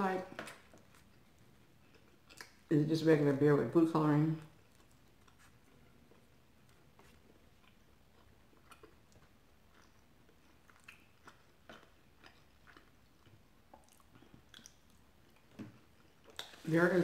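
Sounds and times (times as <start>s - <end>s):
close-up chewing: 0.5s - 2.7s, 4.4s - 16.7s.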